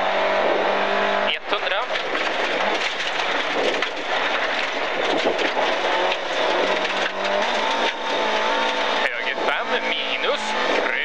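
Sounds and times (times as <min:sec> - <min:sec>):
gravel and tyre noise: 0:00.0 - 0:11.0
rally car engine revving: 0:00.0 - 0:11.0.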